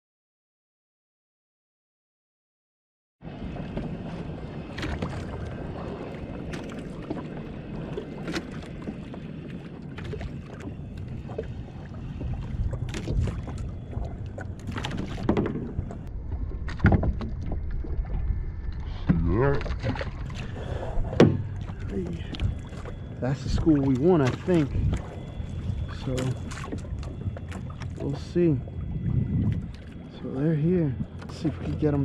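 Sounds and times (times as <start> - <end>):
water sloshing against boat: 3.2 - 32.0
wind on microphone: 3.2 - 32.0.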